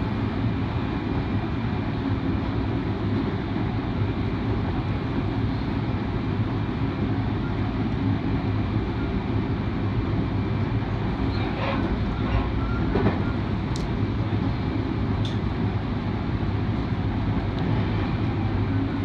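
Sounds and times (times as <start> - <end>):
electric train rumble and hum: 0.0 - 19.0.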